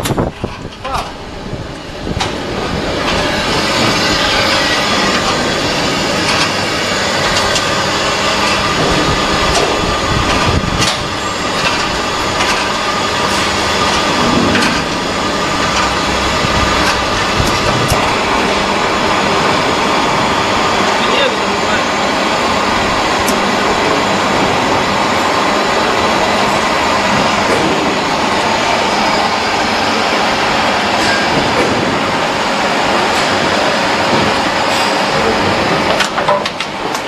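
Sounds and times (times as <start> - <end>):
machinery clattering: 0.0 - 37.0.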